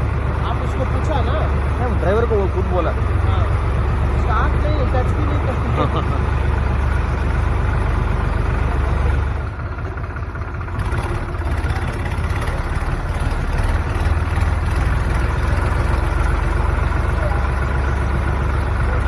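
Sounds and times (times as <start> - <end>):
diesel tractor engine chugging: 0.0 - 19.0.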